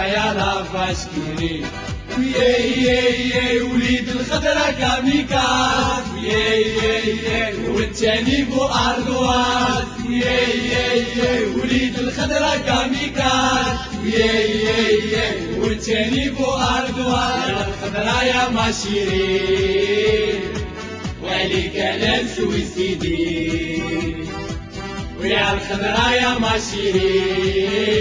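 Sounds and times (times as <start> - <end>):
steady drum beat: 0.0 - 28.0
male crowd chanting: 2.2 - 20.5, 21.2 - 24.0, 25.2 - 28.0.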